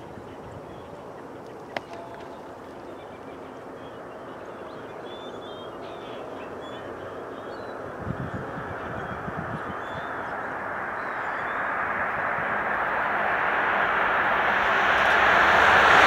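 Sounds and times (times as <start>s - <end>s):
faint bird calls: 0.0s - 13.0s
distant train rumble: 0.0s - 16.0s.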